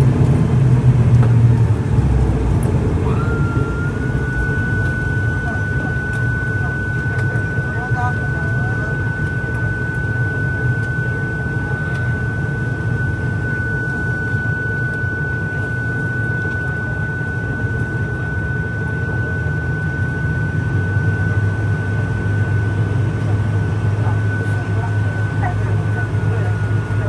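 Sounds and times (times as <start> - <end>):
high engine whine: 0.0 - 27.0
turboprop engine droning: 0.0 - 27.0.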